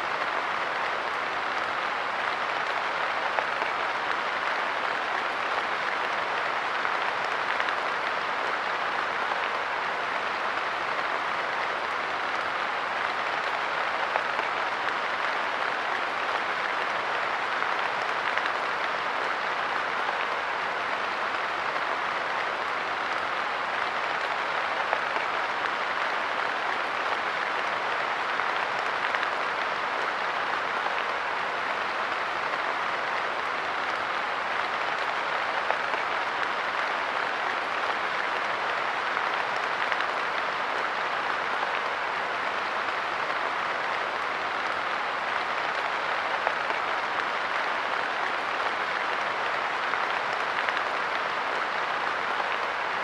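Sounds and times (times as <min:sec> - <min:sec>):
light rain pattering on a bench: 0:00.0 - 0:53.0.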